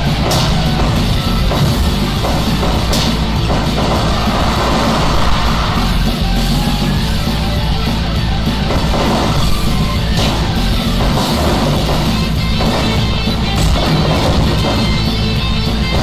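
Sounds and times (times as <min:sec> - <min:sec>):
loud rock music with drums: 0:00.0 - 0:16.0.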